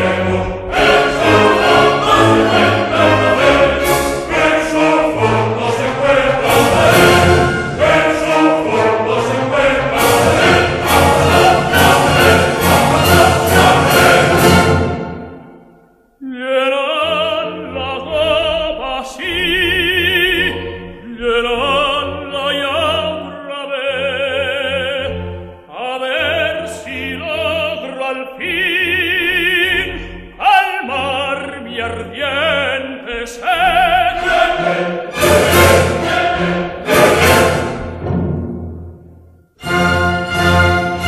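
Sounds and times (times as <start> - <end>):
operatic solo singing: 0.0 - 15.2, 16.2 - 37.8
orchestra: 0.0 - 41.0.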